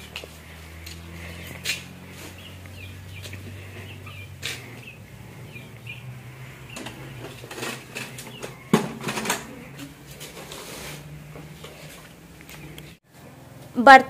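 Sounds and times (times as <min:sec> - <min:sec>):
small birds chirping: 0:00.0 - 0:10.1, 0:11.5 - 0:13.0.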